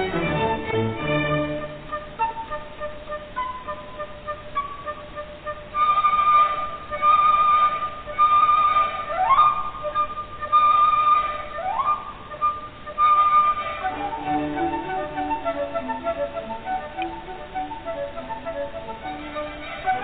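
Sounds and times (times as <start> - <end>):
instrumental melody of long held notes: 0.0 - 20.0.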